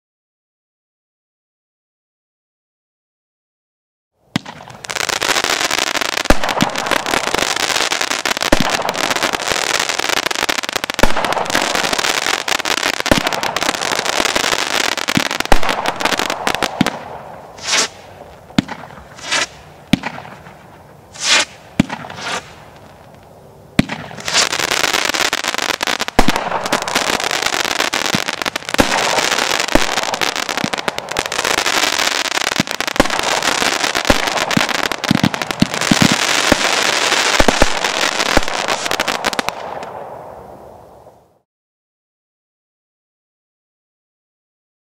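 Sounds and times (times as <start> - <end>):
firework reports: 4.3 - 23.2, 23.8 - 41.2
firework crackling: 4.3 - 41.4.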